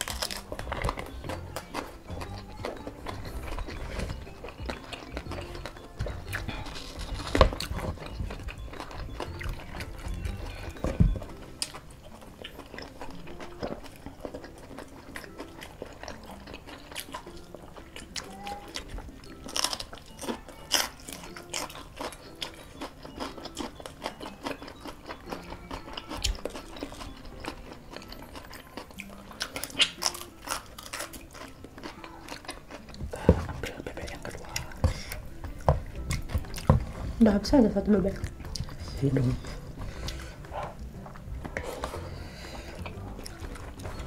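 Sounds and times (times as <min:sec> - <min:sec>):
people chewing food: 0:00.0 - 0:44.0.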